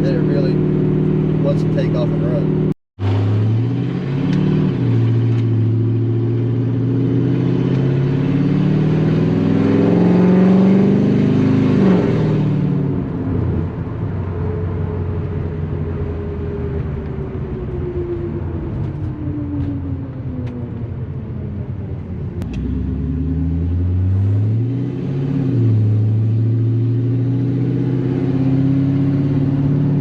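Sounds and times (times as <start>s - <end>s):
engine revving under acceleration: 0.0s - 20.9s, 22.4s - 30.0s.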